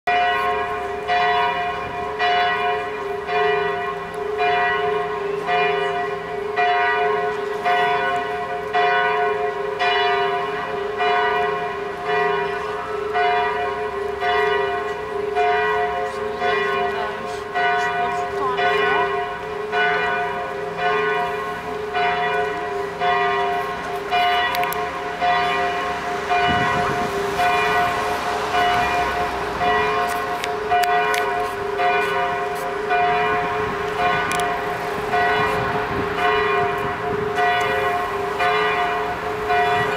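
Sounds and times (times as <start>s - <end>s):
church bells pealing: 0.1s - 39.9s.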